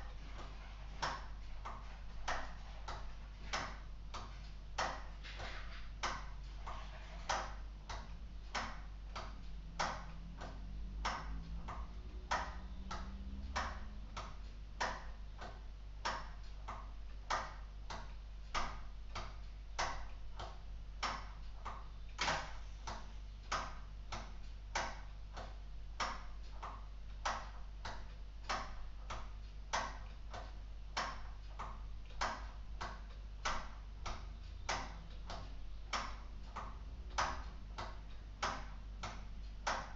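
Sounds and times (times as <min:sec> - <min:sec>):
mechanical clock ticking clicks: 0:00.0 - 0:39.9.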